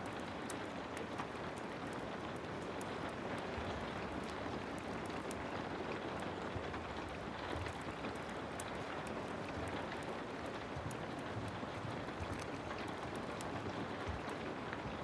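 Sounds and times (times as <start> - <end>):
sharp ticks and crackles: 0.0 - 14.6
heavy rain: 0.0 - 15.0.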